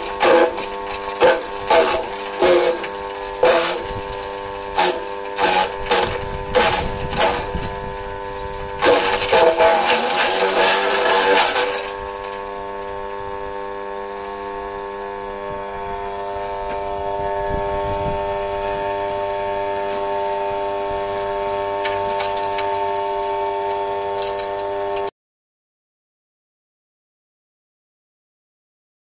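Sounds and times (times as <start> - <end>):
wood chipper motor humming: 0.0 - 25.1
wood chips rustling: 0.0 - 25.1.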